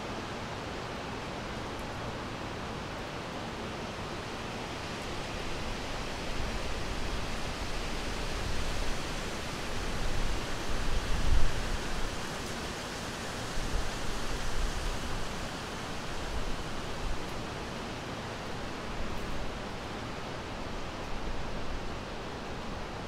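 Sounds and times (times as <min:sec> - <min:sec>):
rushing wind: 0:03.6 - 0:23.0.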